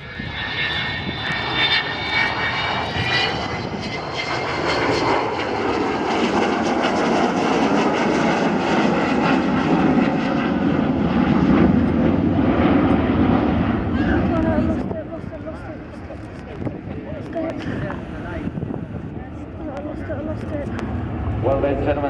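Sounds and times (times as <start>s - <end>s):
jet roar: 0.0s - 22.0s.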